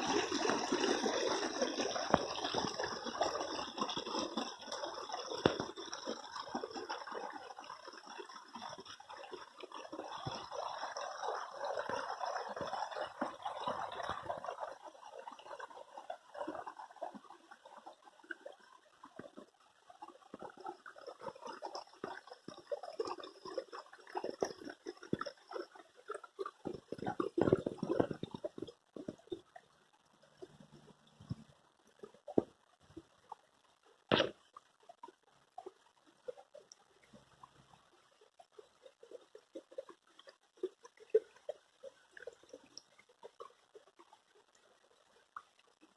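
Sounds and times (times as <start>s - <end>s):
water running and gurgling: 0.0s - 45.9s.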